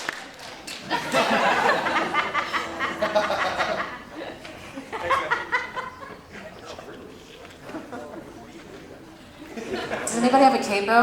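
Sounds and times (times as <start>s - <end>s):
audience laughing and chattering: 0.6s - 10.7s.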